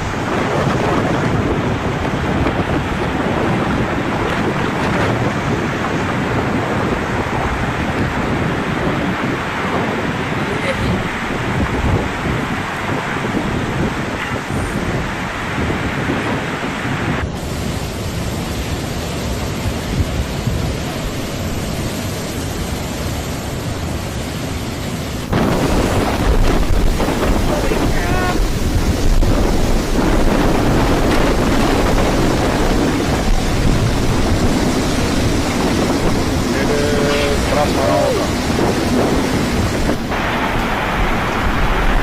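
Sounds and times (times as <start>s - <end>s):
heavy rain: 0.0s - 42.0s
hurricane wind: 0.0s - 42.0s
wind buffeting microphone: 0.0s - 42.0s.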